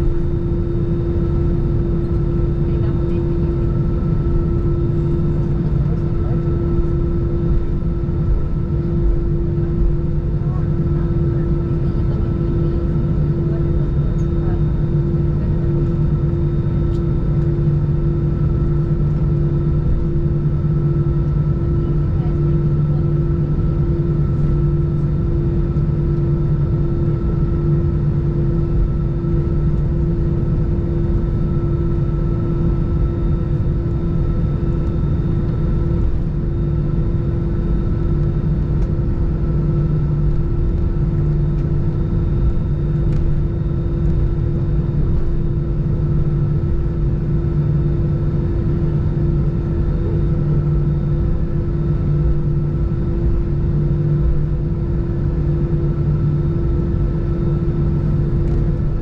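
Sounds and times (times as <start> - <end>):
aircraft cabin engine drone: 0.0 - 59.0
constant humming tones: 0.0 - 59.0.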